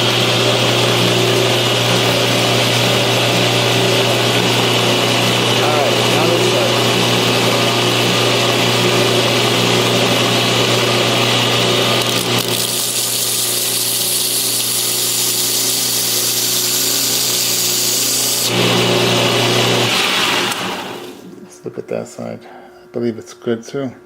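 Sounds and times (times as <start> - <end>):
belt grinder motor hum: 0.0 - 21.4.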